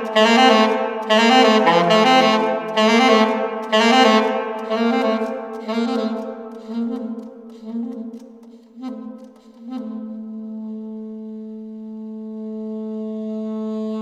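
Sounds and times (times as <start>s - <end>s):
saxophone improvising: 0.0s - 14.0s.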